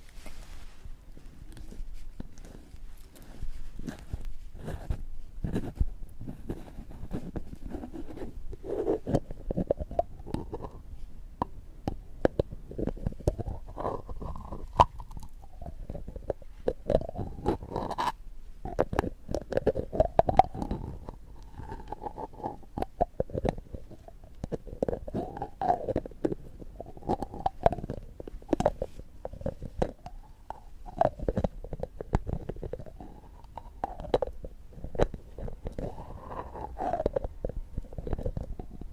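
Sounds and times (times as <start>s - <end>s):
small clicks and crackles: 0.0s - 38.9s.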